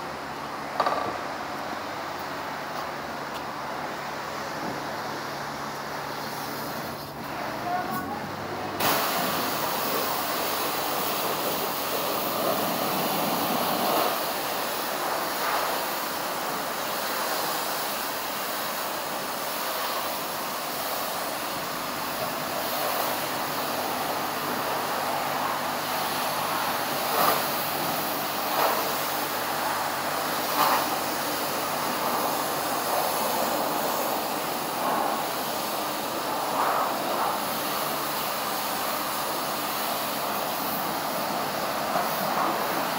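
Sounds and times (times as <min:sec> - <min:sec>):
pressure washer spraying car: 0:00.1 - 0:42.9.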